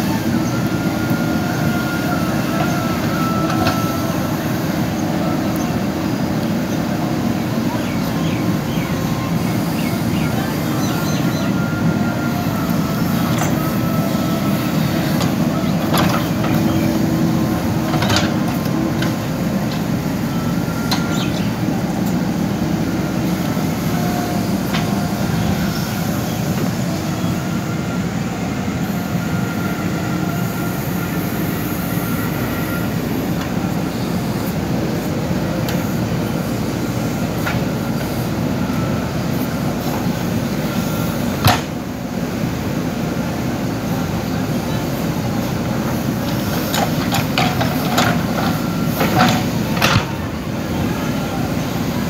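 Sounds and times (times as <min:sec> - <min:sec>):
diesel engine running under load: 0:00.0 - 0:52.0.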